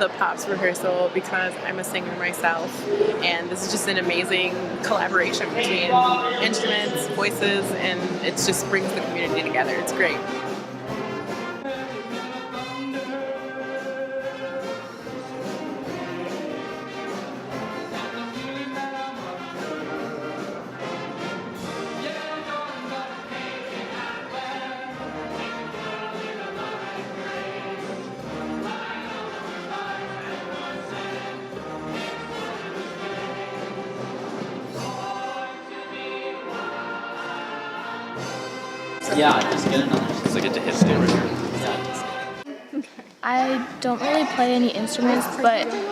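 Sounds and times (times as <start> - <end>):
orchestra brass and strings: 0.0 - 42.5.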